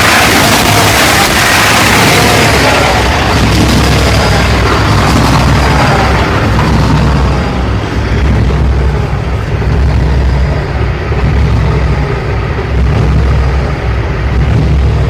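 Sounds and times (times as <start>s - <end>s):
diesel engine idling roughly: 0.0s - 15.0s.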